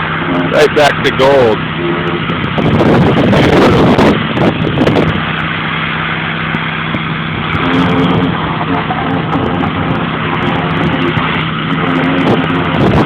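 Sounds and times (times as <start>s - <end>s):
pressure washer motor hum: 0.0s - 13.0s
pressure washer spray hissing: 0.0s - 13.0s.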